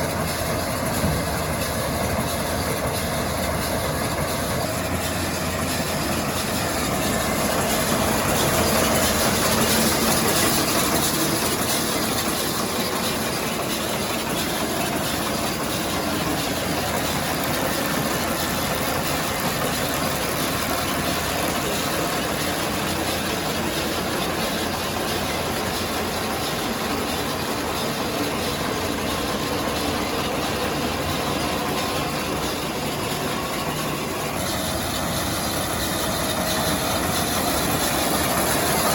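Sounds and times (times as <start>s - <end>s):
tractor and baler machinery: 0.0s - 38.9s.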